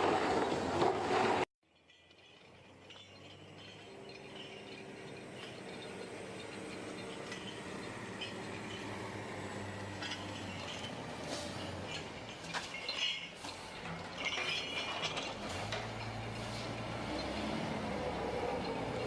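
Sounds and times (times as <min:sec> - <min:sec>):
metallic clinking and rattling: 0:01.6 - 0:19.0.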